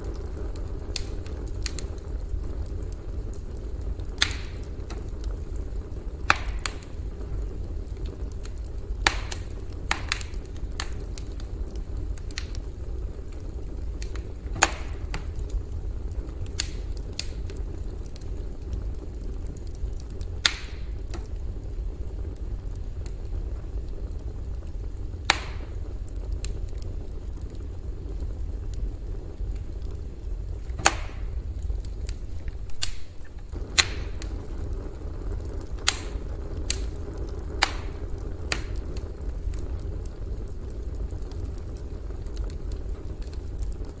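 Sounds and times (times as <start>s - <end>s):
burning wood crackling and popping: 0.0s - 44.0s
campfire rumble: 0.0s - 44.0s.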